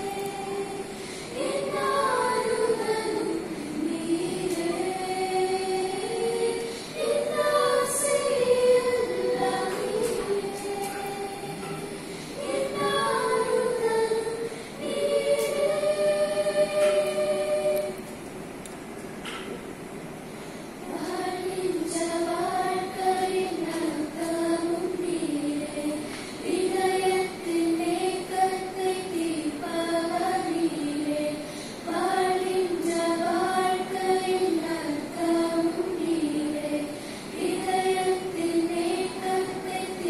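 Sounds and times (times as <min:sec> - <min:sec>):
children's choir singing: 0:00.0 - 0:18.4, 0:20.8 - 0:40.0.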